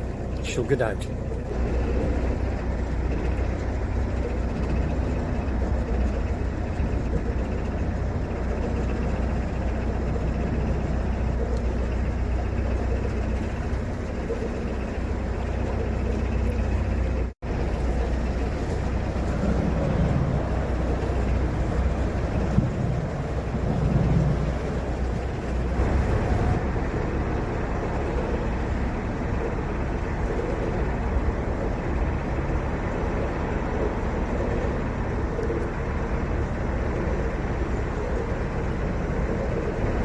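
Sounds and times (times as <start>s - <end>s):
boat engine thrumming: 0.0s - 40.0s.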